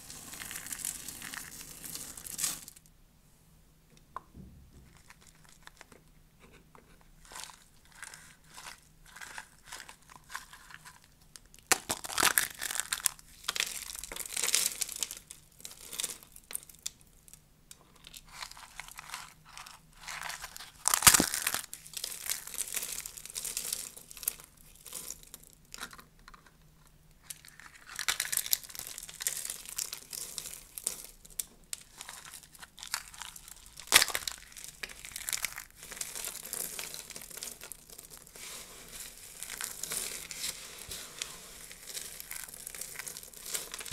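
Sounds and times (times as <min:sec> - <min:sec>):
dry soap crunching and crackling: 0:00.0 - 0:02.8, 0:06.8 - 0:43.9.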